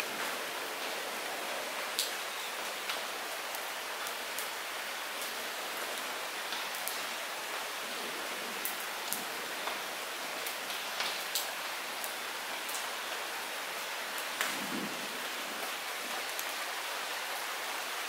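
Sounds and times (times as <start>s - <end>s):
light rain falling: 0.0s - 18.0s
raindrops striking close by: 0.0s - 18.0s.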